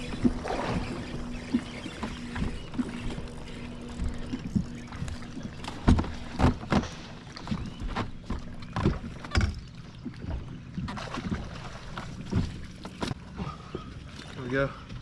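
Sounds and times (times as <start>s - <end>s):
knocks and thumps on a boat: 0.0s - 15.0s.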